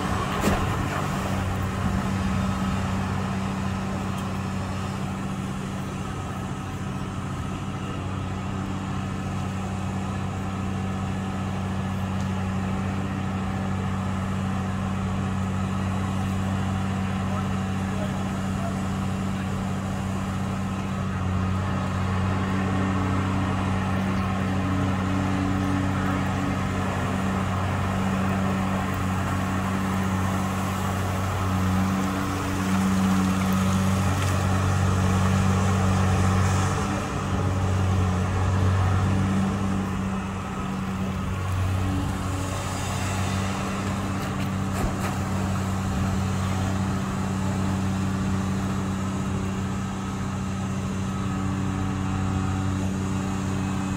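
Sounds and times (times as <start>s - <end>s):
excavator diesel engine droning: 0.0s - 53.9s.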